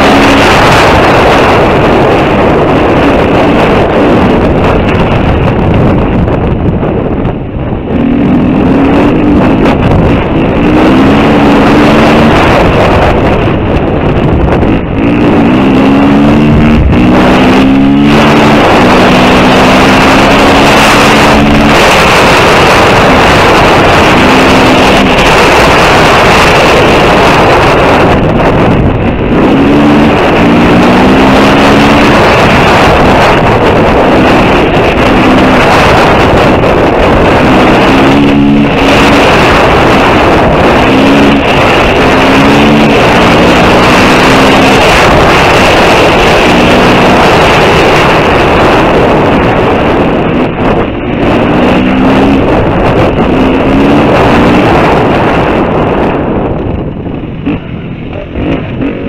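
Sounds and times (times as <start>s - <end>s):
wind noise on microphone: 0.0s - 59.0s
dirt bike engine revving: 7.8s - 56.3s.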